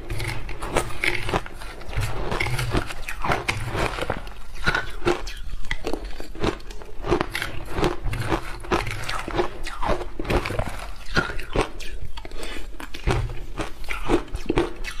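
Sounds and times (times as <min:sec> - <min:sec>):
person chewing crunchy ice: 0:00.0 - 0:15.0.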